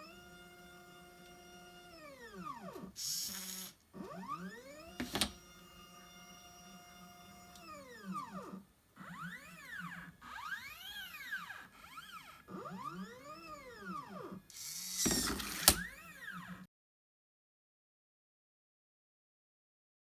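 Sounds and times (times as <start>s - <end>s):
stepper motors whining: 0.0s - 16.7s.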